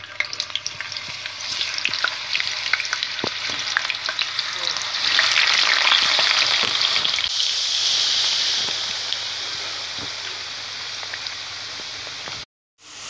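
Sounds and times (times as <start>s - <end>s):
potato sticks deep-frying: 0.0s - 13.0s.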